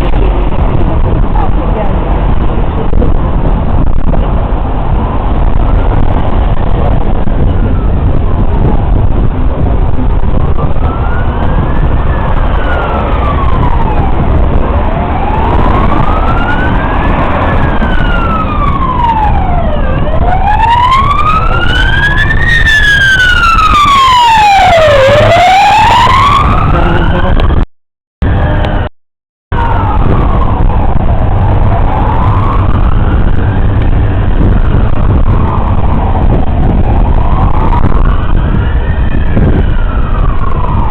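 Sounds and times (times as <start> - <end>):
emergency vehicle siren wailing: 0.0 - 27.6, 28.2 - 28.9, 29.5 - 40.9
traffic rumble: 0.0 - 28.9, 29.5 - 40.9.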